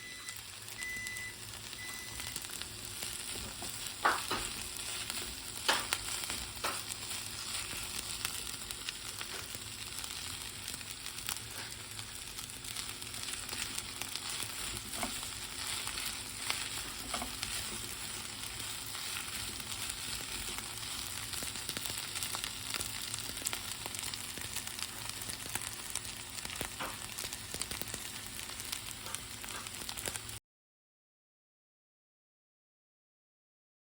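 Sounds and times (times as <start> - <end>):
food sizzling in a frying pan: 0.0 - 30.4.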